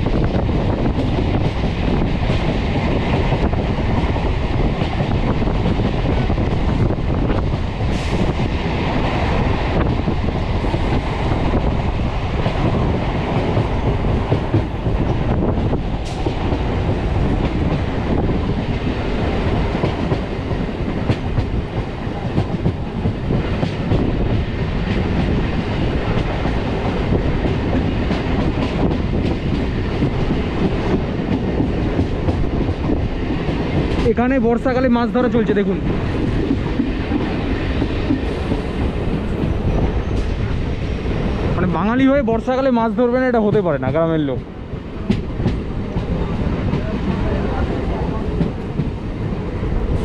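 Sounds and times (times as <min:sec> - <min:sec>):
train wheels clacking over rails: 0:00.0 - 0:50.0.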